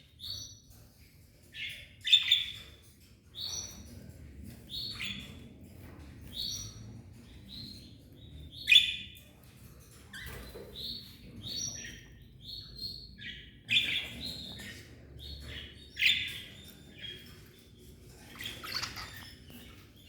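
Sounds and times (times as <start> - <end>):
cage birds chirping: 0.0 - 20.0.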